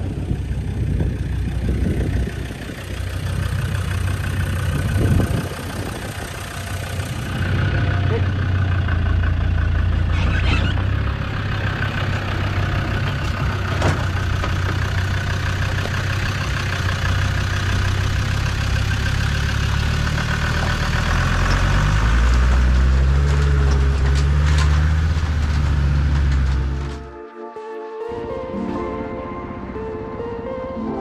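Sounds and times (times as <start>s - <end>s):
diesel engine running: 0.0s - 27.2s.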